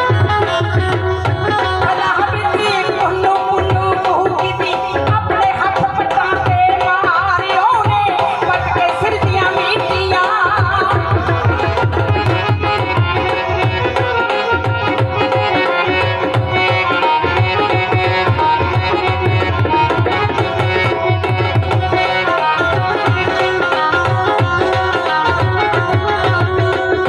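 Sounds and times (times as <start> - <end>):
folk drumming: 0.0 - 27.0.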